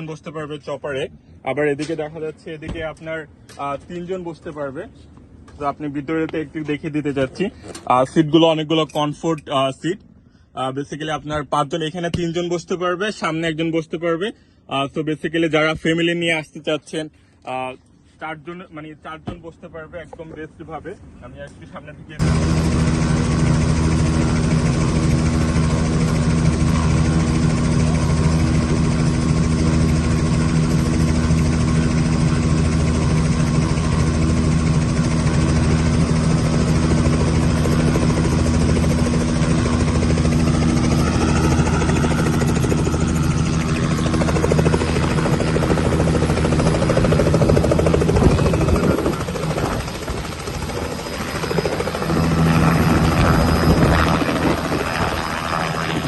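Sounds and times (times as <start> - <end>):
helicopter turbine and rotor hum: 0.0 - 56.0.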